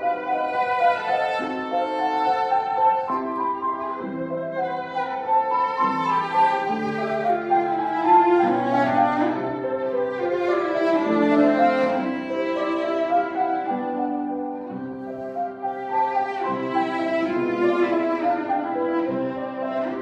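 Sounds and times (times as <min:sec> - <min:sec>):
cellos playing sustained notes: 0:00.0 - 0:20.0.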